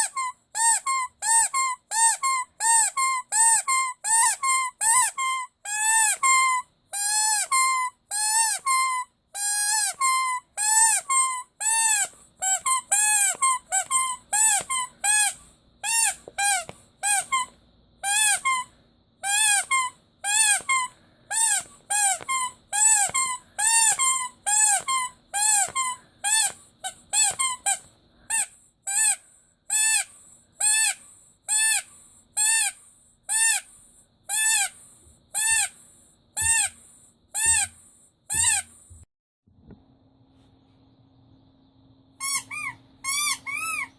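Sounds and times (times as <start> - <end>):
rubber squeaky toy squeaking: 0.0 - 33.7, 34.3 - 35.8, 36.4 - 39.0, 42.2 - 43.9.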